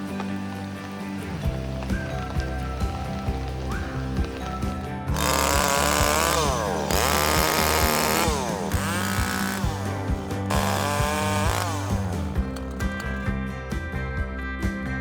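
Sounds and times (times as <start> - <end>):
small petrol engine revving: 0.0 - 13.3
background music: 0.0 - 15.0.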